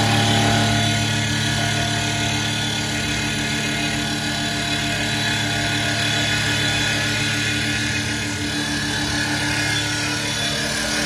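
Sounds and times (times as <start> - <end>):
lathe motor hum: 0.0 - 11.0.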